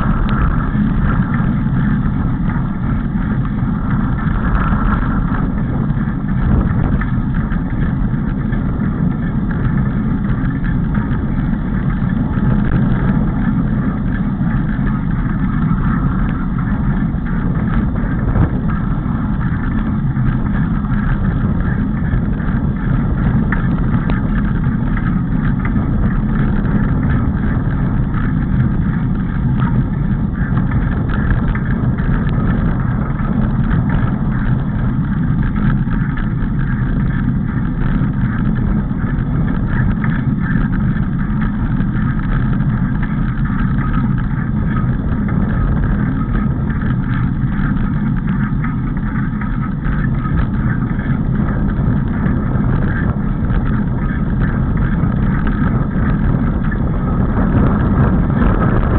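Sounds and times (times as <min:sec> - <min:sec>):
vehicle rumbling on gravel: 0:00.0 - 0:58.9.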